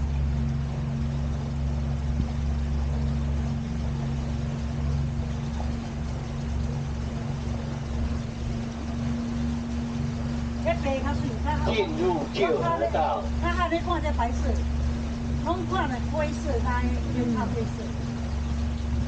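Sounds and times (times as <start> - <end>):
electric boat motor hum: 0.0 - 19.0
low rumble: 0.0 - 19.0.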